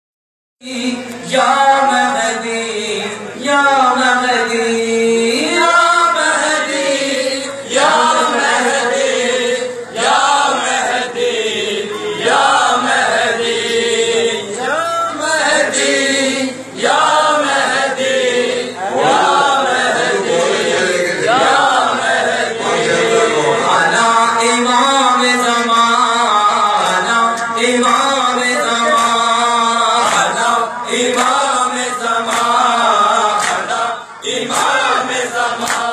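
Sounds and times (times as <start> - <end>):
men chanting a lament: 0.6 - 35.9.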